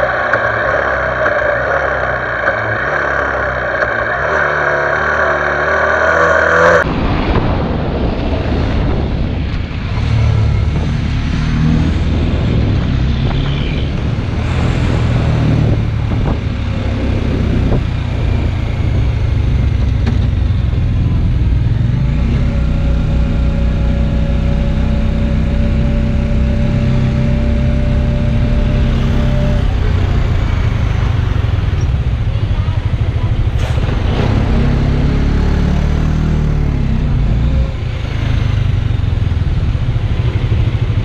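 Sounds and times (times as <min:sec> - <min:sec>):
motorcycle engine running: 0:00.0 - 0:06.9, 0:10.0 - 0:41.0
road and wind noise: 0:00.0 - 0:41.0
traffic: 0:00.0 - 0:41.0.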